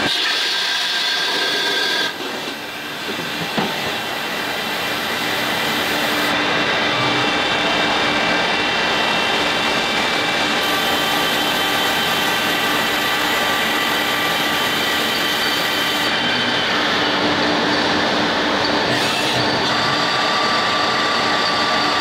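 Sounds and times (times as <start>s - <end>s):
lathe machine whine: 0.0s - 22.0s.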